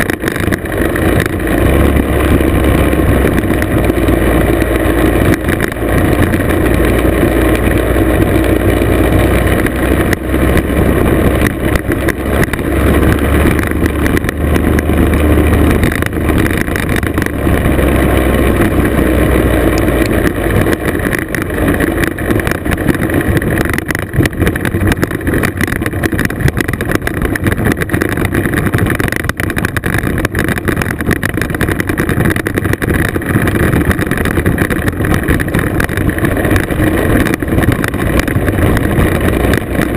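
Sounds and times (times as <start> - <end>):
two-stroke scooter engine: 0.0 - 39.9
tyres on gravel: 0.0 - 39.9
wind: 0.0 - 39.9.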